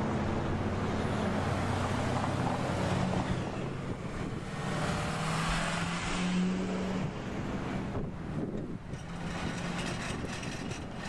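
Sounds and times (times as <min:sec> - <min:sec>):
low engine hum: 0:00.0 - 0:11.0
road traffic passing: 0:00.0 - 0:11.0.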